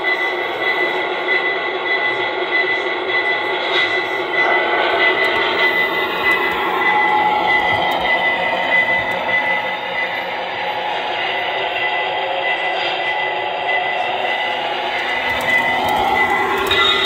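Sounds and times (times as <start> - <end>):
model train motors running: 0.0 - 17.0
toy train diesel engine drone: 0.0 - 17.0.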